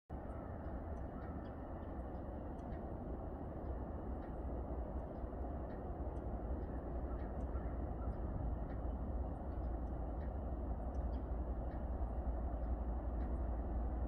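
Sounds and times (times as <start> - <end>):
low rumble and hiss: 0.1 - 14.0.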